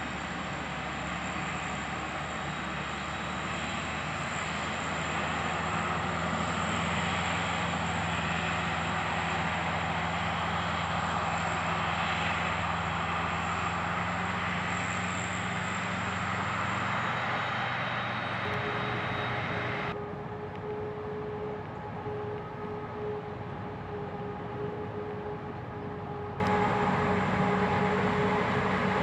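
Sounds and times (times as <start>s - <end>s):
diesel engine drone: 0.0s - 29.0s
high-pitched whine: 0.0s - 29.0s.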